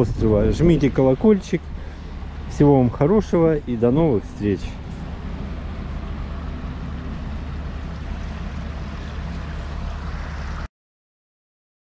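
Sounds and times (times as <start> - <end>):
low rumble: 0.0 - 10.7.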